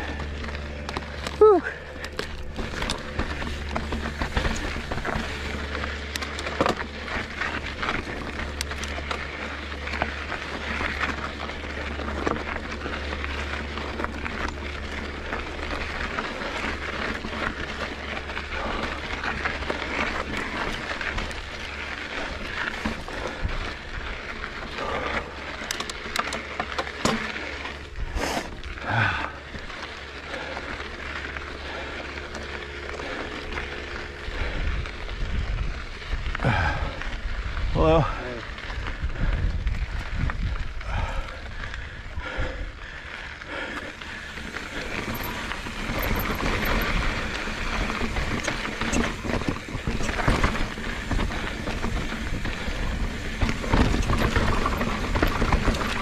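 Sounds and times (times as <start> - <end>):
bike rattles and clicks: 0.0 - 56.0
tyres rushing on dirt trail: 0.0 - 56.0.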